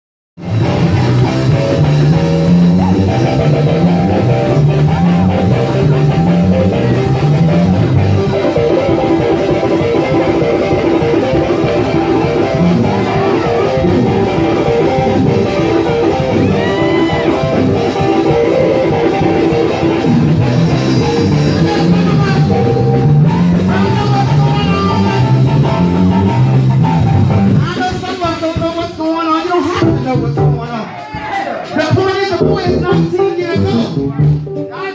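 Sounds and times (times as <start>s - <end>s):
bass guitar runs: 0.4s - 28.0s, 32.3s - 34.6s
drums playing a groove: 0.4s - 34.9s
guitar: 0.4s - 34.9s.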